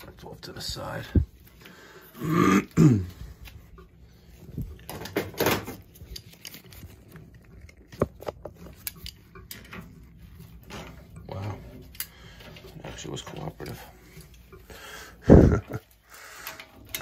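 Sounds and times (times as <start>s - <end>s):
scraping and clattering on pump: 3.2s - 17.0s.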